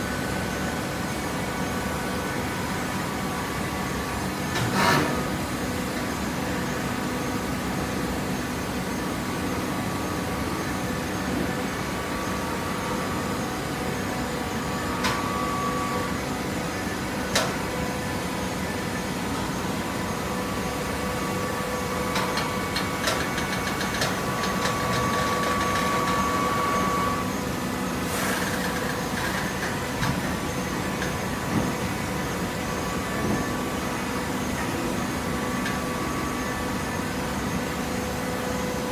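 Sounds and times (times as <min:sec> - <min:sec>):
motor and pump humming: 0:00.0 - 0:38.9.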